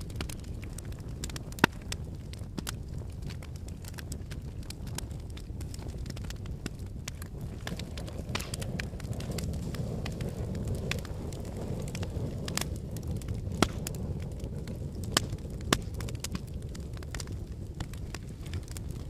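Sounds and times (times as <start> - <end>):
loud fire pops: 0.0 - 19.0
wood fire crackling: 0.0 - 19.0.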